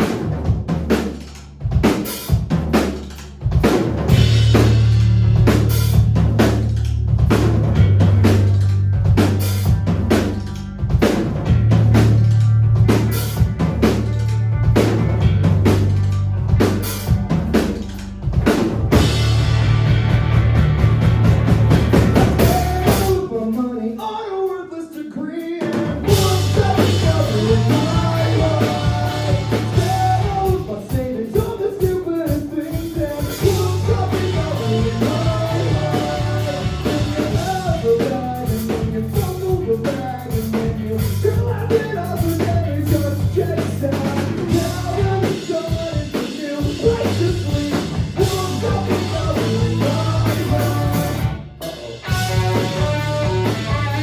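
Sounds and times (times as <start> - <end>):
rock band playing live: 0.0 - 23.7, 25.6 - 54.0.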